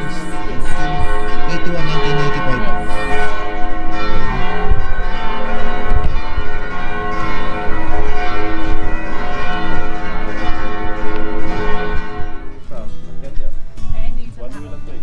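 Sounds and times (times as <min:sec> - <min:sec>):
church bells ringing: 0:00.0 - 0:12.7.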